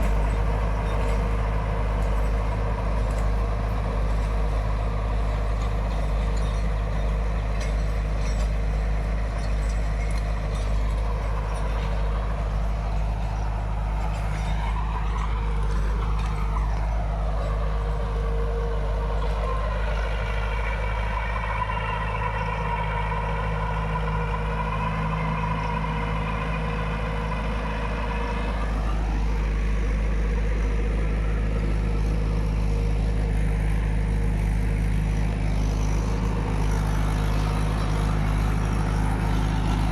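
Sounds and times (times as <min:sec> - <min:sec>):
mechanical whine: 0:00.0 - 0:39.9
tractor diesel engine under load: 0:00.0 - 0:39.9.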